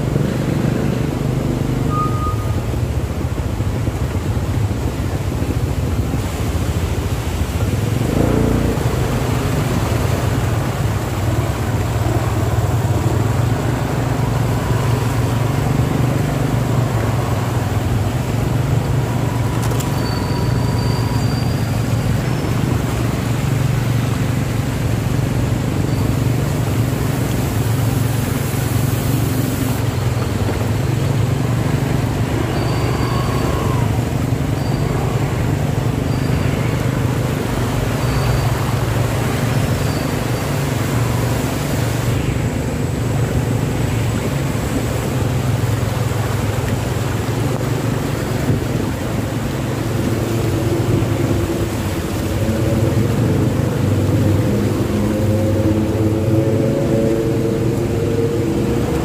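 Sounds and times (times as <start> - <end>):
car and motorcycle engines droning: 0.0 - 59.0.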